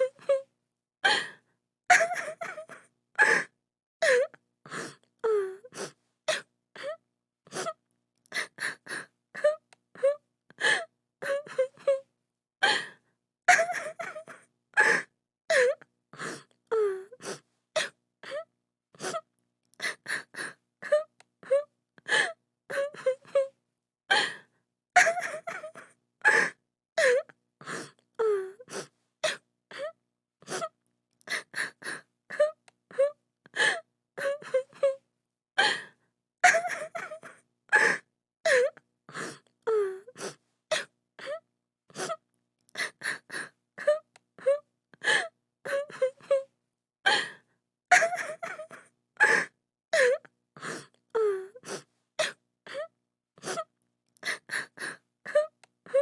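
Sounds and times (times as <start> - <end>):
woman sobbing and whimpering: 0.0 - 7.8, 8.4 - 12.9, 13.5 - 24.4, 25.0 - 35.0, 35.6 - 42.2, 42.8 - 46.5, 47.1 - 56.0.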